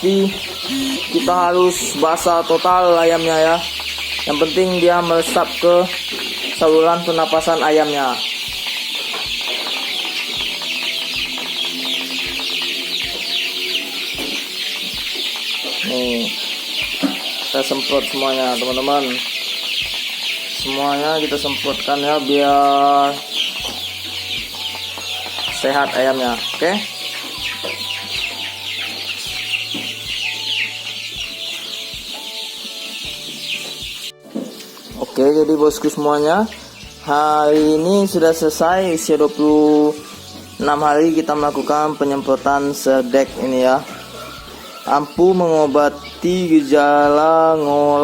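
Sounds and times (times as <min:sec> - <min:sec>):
chicks peeping and cheeping: 0:00.0 - 0:48.0.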